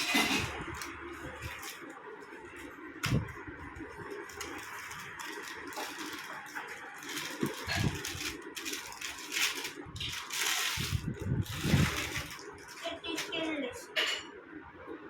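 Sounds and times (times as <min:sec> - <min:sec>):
packaging rustling: 0:00.4 - 0:13.5.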